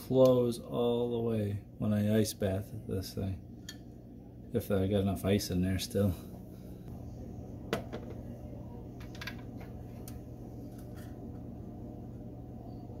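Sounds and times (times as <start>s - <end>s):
refrigerator humming: 0.0s - 13.0s.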